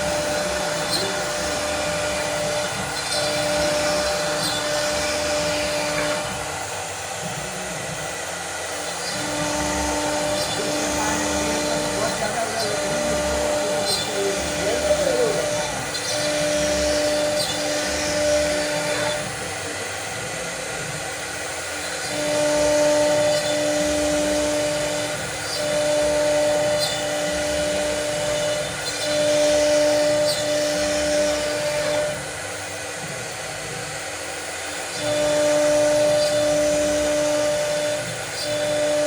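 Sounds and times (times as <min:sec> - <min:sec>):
machine pitched hum: 0:00.0 - 0:39.0
motor and cutting hiss: 0:00.0 - 0:39.0.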